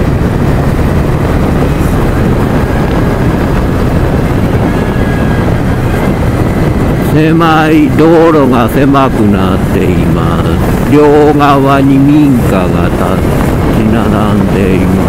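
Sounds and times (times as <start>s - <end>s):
motorcycle engine rumble: 0.0s - 15.0s
wind noise on microphone: 0.0s - 15.0s.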